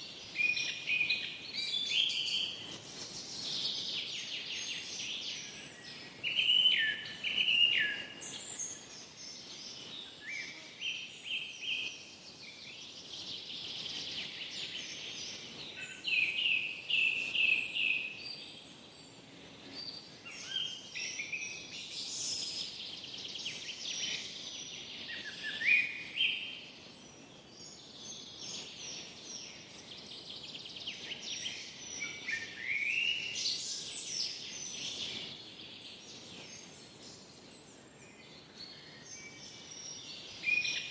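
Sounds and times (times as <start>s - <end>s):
faint background hiss: 0.0s - 40.9s
songbirds singing and calling: 0.0s - 40.9s.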